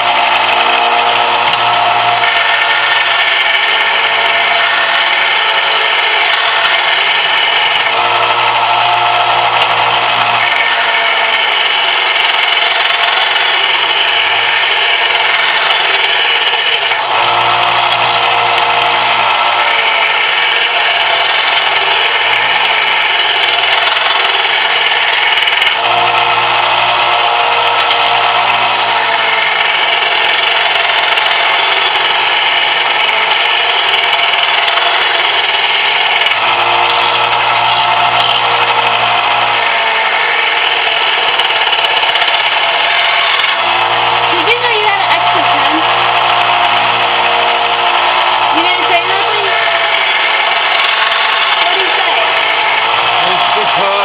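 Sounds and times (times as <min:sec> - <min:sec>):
power sander grinding metal: 0:00.0 - 0:54.0.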